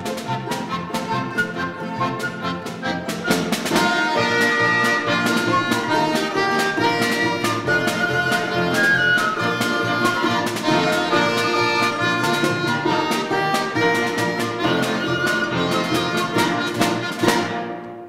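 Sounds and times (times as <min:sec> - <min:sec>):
accordion: 0:00.0 - 0:18.0
folk orchestra playing: 0:00.0 - 0:18.0.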